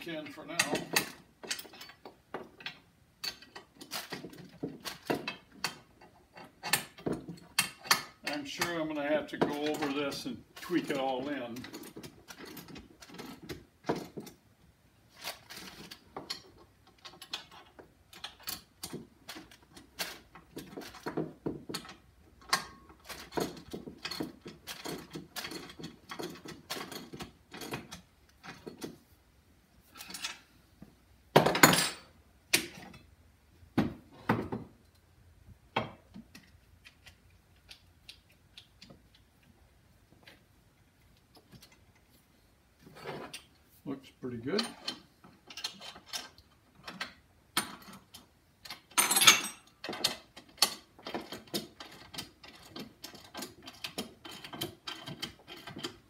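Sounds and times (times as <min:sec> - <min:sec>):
wrenches and hardware clinking: 0:00.0 - 0:29.1, 0:29.8 - 0:30.6, 0:31.4 - 0:33.1, 0:35.8 - 0:42.2, 0:42.8 - 0:56.0.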